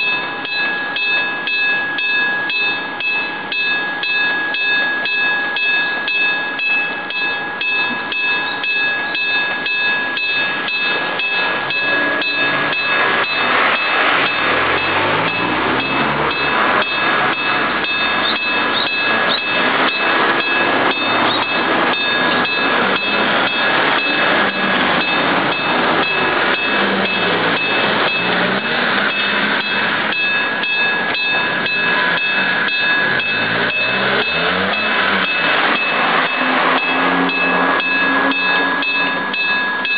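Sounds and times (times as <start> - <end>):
electric train motor: 0.0 - 39.9
level crossing bell ringing: 0.0 - 39.9.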